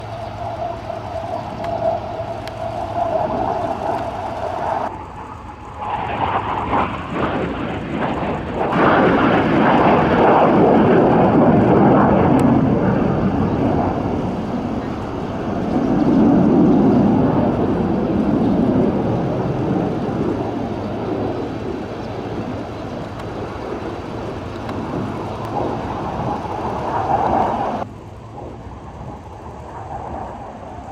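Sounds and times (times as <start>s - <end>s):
jet engine roar: 0.0s - 30.9s.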